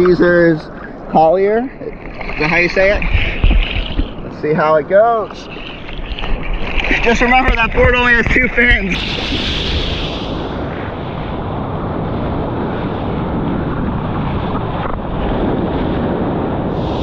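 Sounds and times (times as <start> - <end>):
wind on microphone: 0.0 - 17.0
ocean surf rushing: 0.7 - 17.0.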